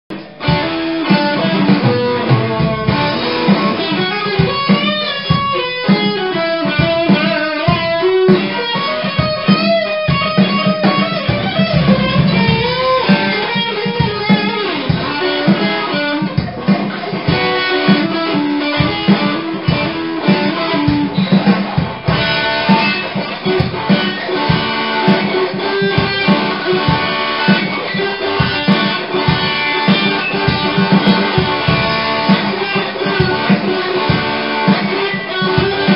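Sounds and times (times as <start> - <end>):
electric guitar playing rock: 0.1 - 35.9.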